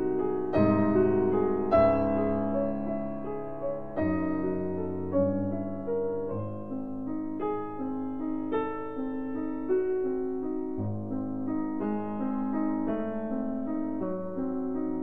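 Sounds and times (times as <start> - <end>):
gentle instrumental music: 0.0 - 15.0.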